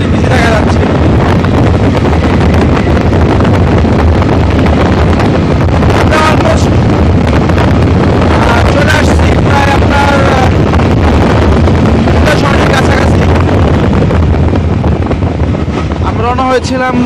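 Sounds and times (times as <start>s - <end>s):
motorcycle and road rumble: 0.0s - 17.0s
wind buffeting microphone: 0.0s - 17.0s.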